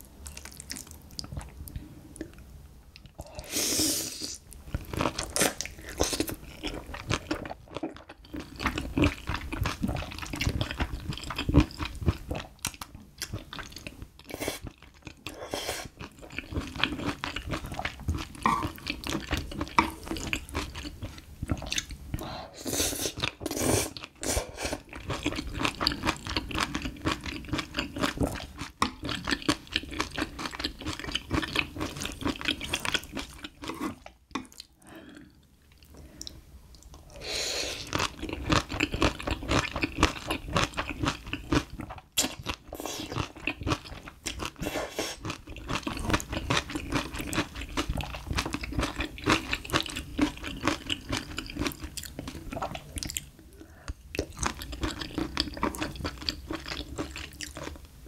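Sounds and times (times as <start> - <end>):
wet chewing and crunching: 0.2 - 2.4, 4.6 - 22.0, 24.8 - 34.8, 37.8 - 57.9.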